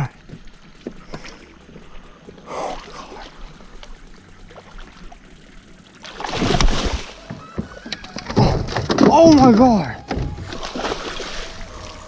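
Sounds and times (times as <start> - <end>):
fish thrashing and splashing: 1.0 - 12.0.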